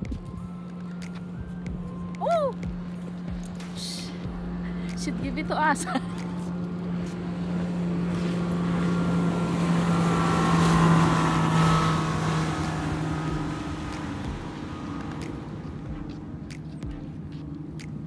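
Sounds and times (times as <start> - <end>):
motorboat engine passing by: 0.0 - 18.0.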